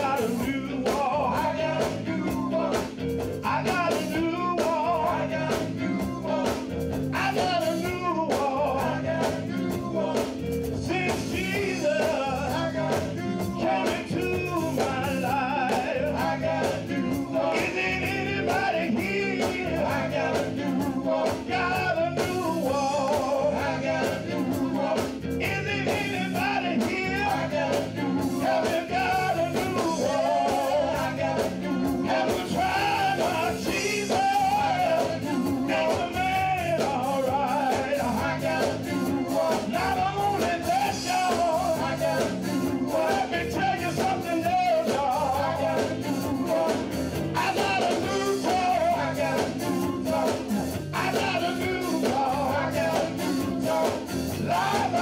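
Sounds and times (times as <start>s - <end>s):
band with guitar and beat: 0.0s - 55.0s
male singers in harmony: 0.0s - 55.0s.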